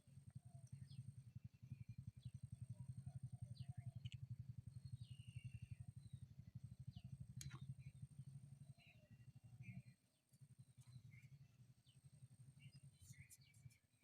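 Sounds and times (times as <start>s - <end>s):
low pulsing hum: 0.0s - 14.0s
birds chirping: 0.3s - 14.0s.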